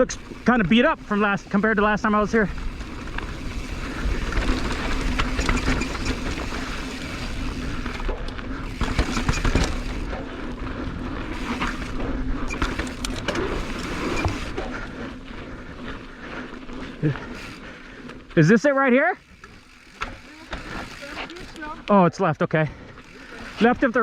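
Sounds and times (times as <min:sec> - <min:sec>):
bike knocking and rattling: 0:00.0 - 0:22.0, 0:22.7 - 0:24.0
tyres rushing on dirt: 0:00.0 - 0:24.0.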